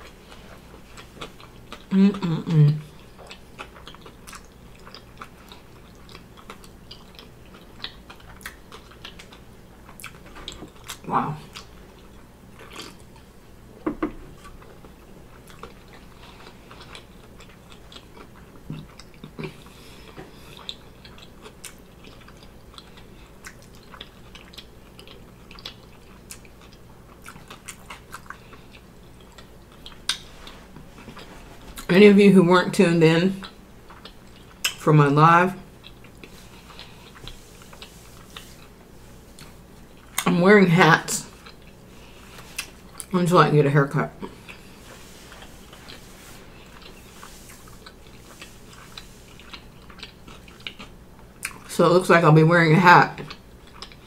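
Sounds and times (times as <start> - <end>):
chewing with wet mouth clicks: 0.8 - 1.9, 3.0 - 13.3, 14.4 - 31.9, 33.4 - 34.8, 35.8 - 40.3, 41.3 - 43.1, 44.2 - 51.7, 53.2 - 54.0.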